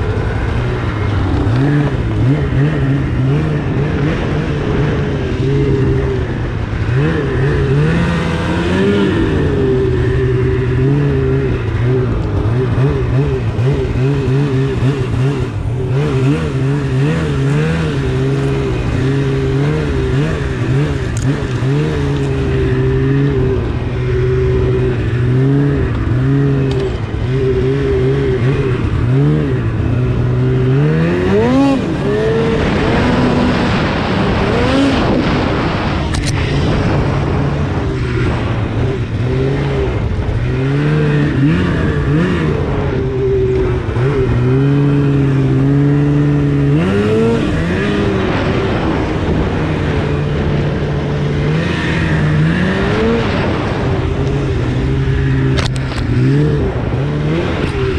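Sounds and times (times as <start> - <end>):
snowmobile engine revving: 0.0 - 57.9.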